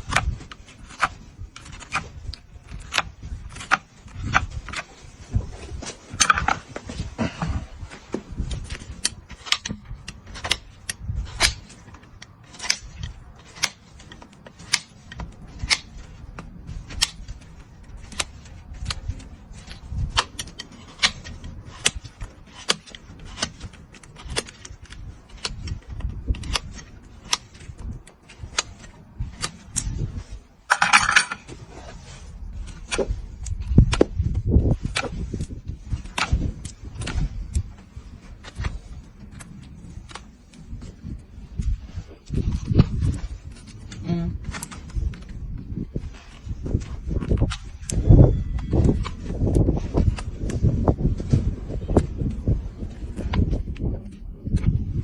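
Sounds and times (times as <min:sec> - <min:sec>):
scraping rasp on hoof: 0:00.0 - 0:55.0.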